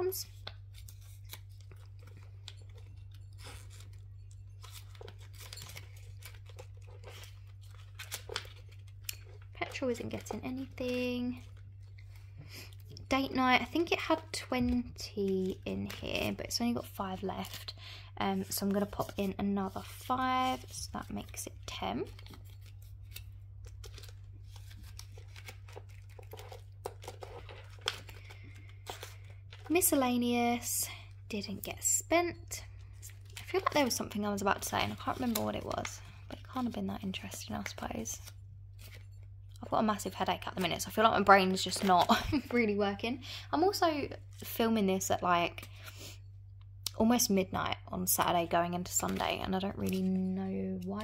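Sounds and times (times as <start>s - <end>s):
steady low hum: 0.0s - 51.0s
paper rustling and crinkling: 0.2s - 30.6s, 32.9s - 43.0s, 48.3s - 51.0s.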